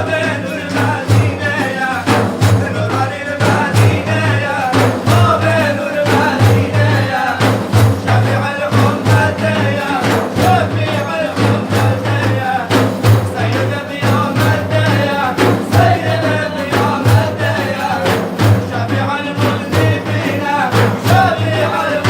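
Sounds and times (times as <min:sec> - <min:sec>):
hand drum beating: 0:00.0 - 0:22.0.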